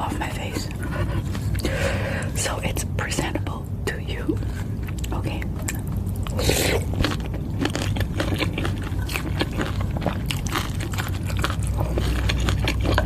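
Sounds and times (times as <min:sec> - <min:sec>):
person chewing and slurping: 0:00.1 - 0:02.3, 0:04.4 - 0:13.0.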